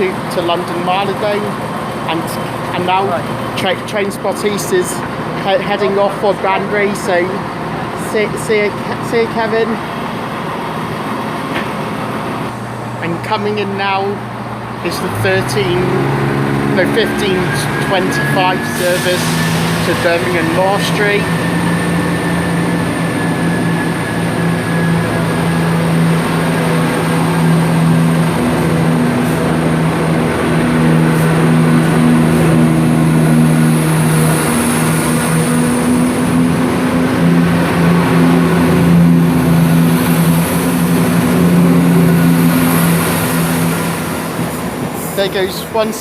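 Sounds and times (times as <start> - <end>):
diesel train engines droning: 0.0 - 46.0.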